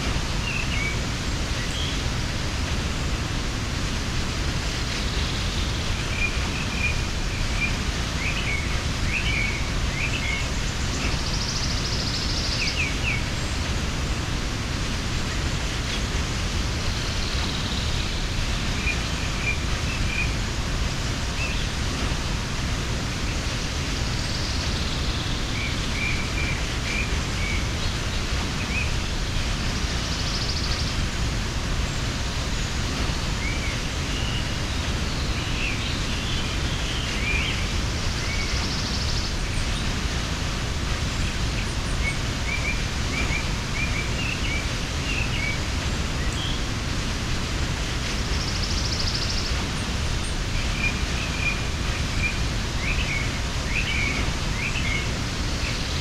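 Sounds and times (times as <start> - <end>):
small birds chirping: 0.0 - 56.0
waterfall rushing: 0.0 - 56.0.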